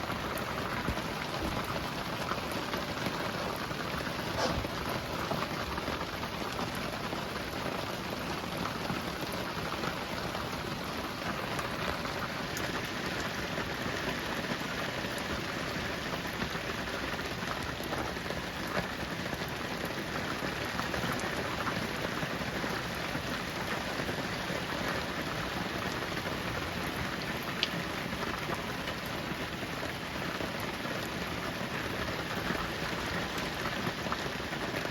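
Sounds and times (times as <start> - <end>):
heavy rain on hard surface: 0.0 - 34.9.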